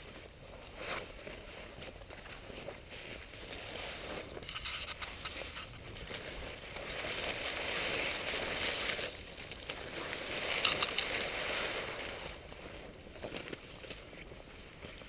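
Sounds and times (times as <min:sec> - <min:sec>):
footsteps through dry grass: 0:00.0 - 0:15.0
pine branches brushing: 0:00.0 - 0:15.0.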